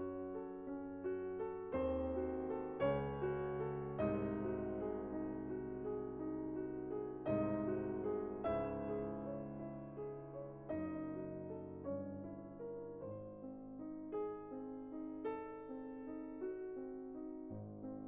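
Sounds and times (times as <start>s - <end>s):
slow soft piano chords: 0.0s - 18.0s.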